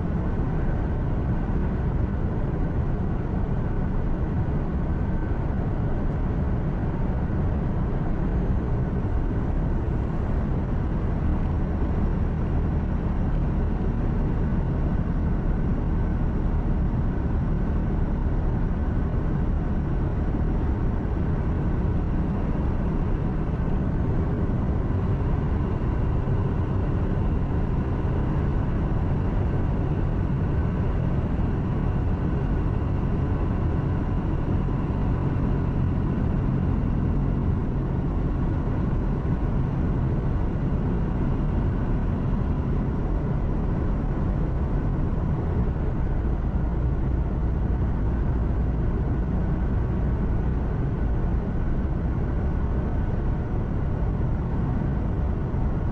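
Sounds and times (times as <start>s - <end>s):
truck engine rumble: 4.7s - 55.8s.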